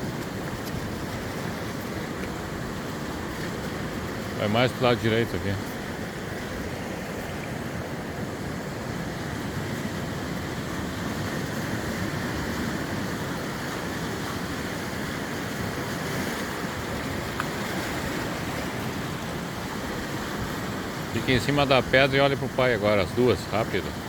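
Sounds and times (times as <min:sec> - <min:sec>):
surf breaking on rocky shore: 0:00.0 - 0:24.0.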